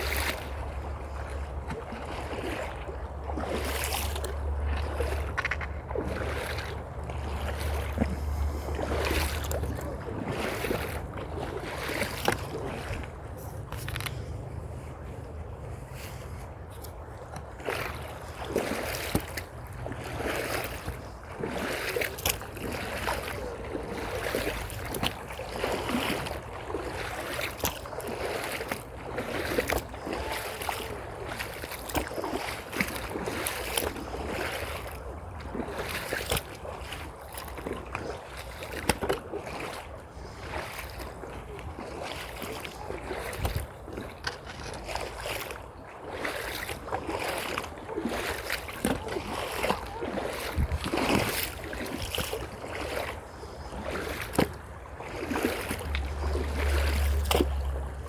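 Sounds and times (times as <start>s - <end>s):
creek water splashing: 0.0s - 58.0s.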